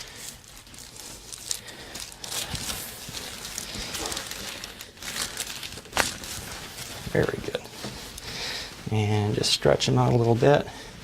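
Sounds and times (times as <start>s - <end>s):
rustling and shuffling: 0.0s - 11.0s.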